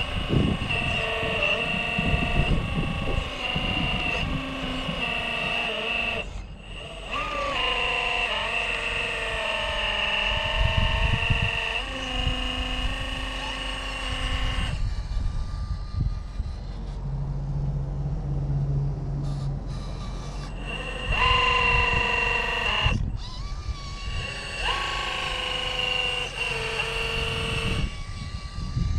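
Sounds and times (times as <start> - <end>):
electric motor and gear whine: 0.0 - 28.9
wind buffeting on microphone: 0.0 - 28.9.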